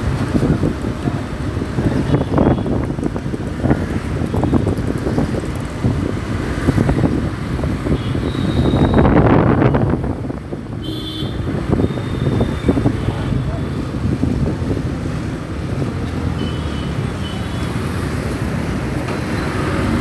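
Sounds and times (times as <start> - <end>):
wind buffeting microphone: 0.0 - 16.1
road traffic: 0.0 - 20.0
rumble of engines: 0.0 - 20.0.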